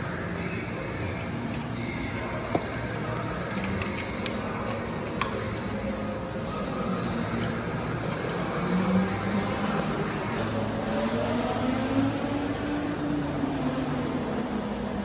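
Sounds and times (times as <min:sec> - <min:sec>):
indoor go-kart track hum: 0:00.0 - 0:15.0.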